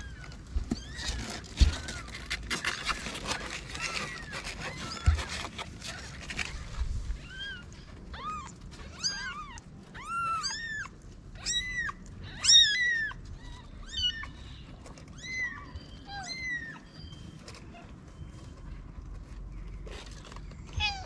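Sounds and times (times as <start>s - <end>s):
kittens mewing: 0.0s - 16.9s.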